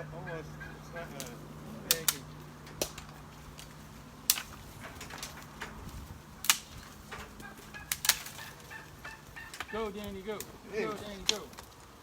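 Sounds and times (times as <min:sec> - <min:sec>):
steady low hum: 0:00.0 - 0:11.2
sticks cracking and snapping: 0:01.1 - 0:12.0.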